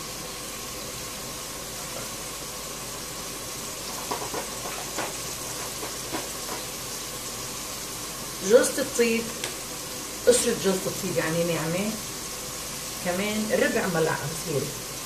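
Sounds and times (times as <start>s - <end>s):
food steaming and sizzling: 0.0s - 15.0s.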